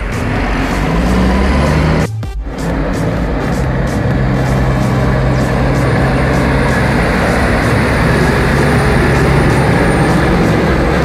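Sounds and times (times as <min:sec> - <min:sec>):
thin high whine: 0:00.0 - 0:11.0
truck diesel engine drone: 0:00.0 - 0:11.0.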